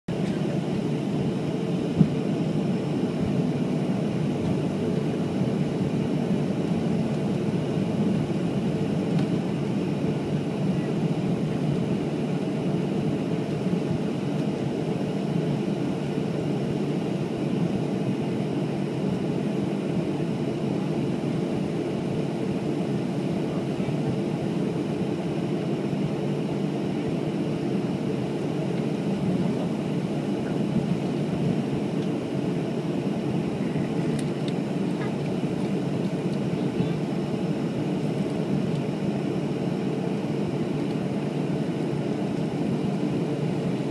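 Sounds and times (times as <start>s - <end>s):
airplane cabin engine rumble: 0.1s - 43.9s.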